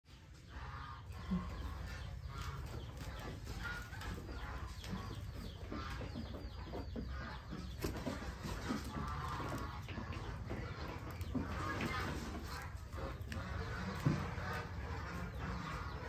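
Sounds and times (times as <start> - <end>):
goats moving about: 0.4 - 16.0
goat calls: 0.5 - 16.0.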